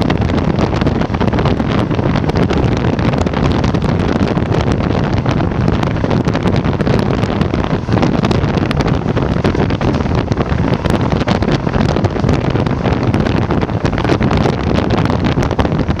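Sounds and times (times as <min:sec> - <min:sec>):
train wheels rumbling on rails: 0:00.0 - 0:16.0
wind buffeting microphone: 0:00.0 - 0:16.0.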